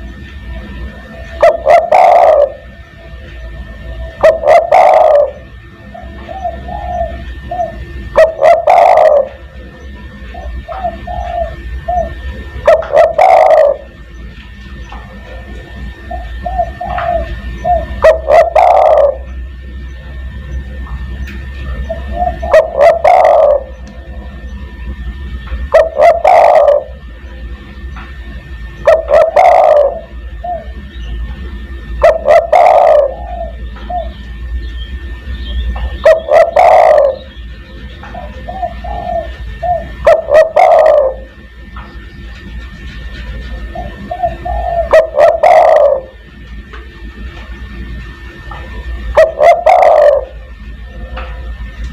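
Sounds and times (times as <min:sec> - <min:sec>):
dove cooing: 0:00.0 - 0:51.8
low steady hum: 0:00.0 - 0:51.9.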